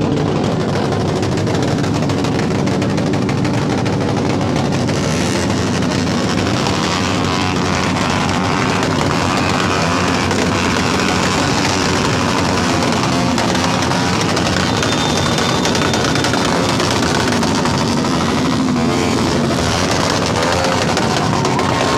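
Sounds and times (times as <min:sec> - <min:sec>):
loud vehicle exhausts revving: 0:00.0 - 0:21.9.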